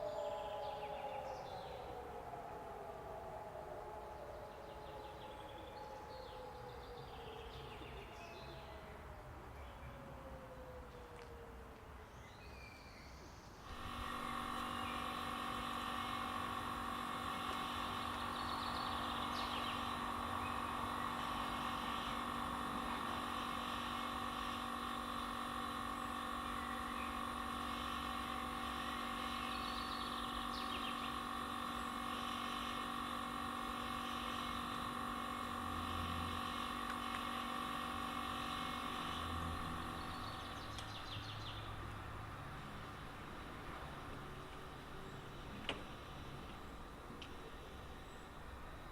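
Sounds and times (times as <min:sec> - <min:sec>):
civil defence siren chord: 0:00.0 - 0:12.2, 0:13.5 - 0:48.9.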